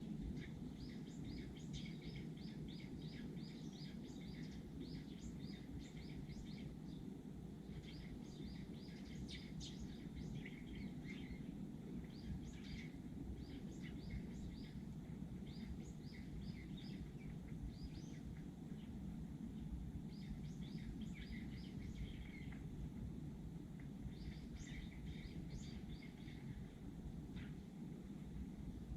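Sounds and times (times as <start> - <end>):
low background rumble: 0.0 - 28.9
sparrows chirping: 0.1 - 22.7, 23.9 - 27.7.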